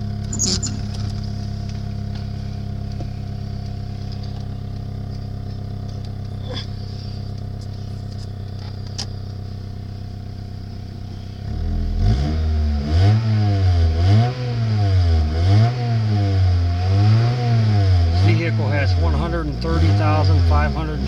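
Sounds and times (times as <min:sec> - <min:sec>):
engine revving in throttle blips: 0:00.0 - 0:09.3, 0:10.8 - 0:21.0
car engine idling: 0:00.0 - 0:21.0.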